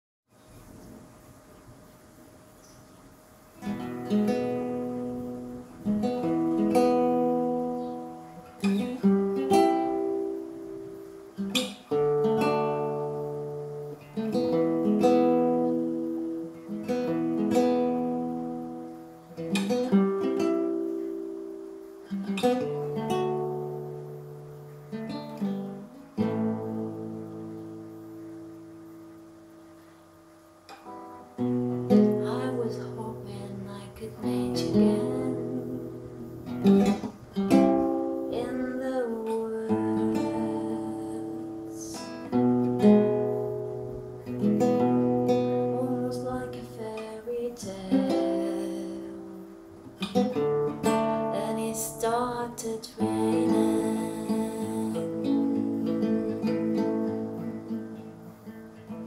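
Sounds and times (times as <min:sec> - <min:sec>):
acoustic guitar strummed chords: 0:03.4 - 0:59.0.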